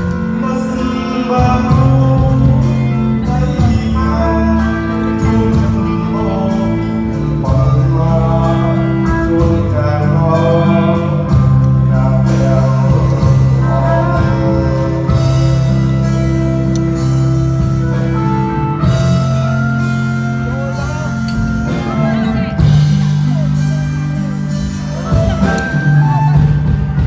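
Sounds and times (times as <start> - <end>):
music with singing: 0.0 - 27.0
sustained bass notes: 0.0 - 27.0.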